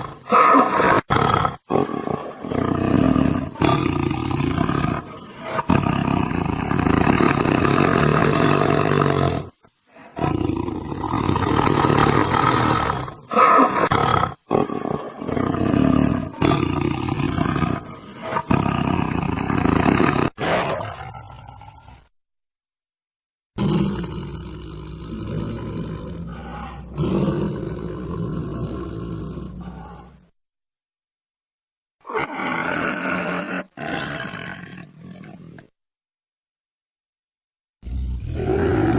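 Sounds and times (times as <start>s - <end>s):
tiger roaring: 0.0s - 22.1s, 23.6s - 30.2s, 32.0s - 35.7s, 37.8s - 38.9s.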